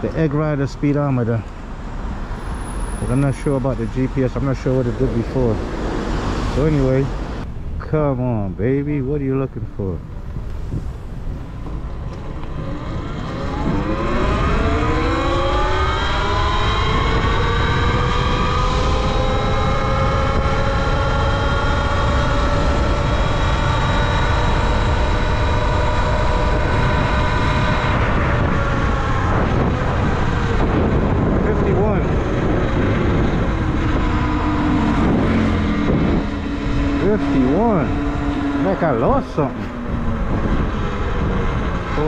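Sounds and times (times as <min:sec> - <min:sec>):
wind rush on microphone: 0:01.3 - 0:42.0.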